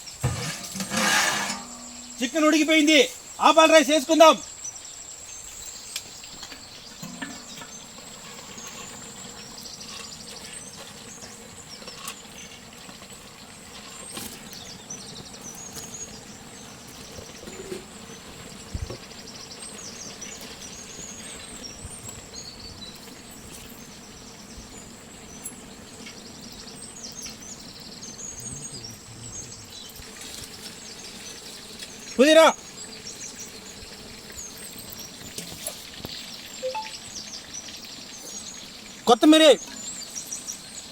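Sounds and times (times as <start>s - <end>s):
high insect drone: 0.0s - 37.4s
small birds chirping: 1.6s - 40.9s.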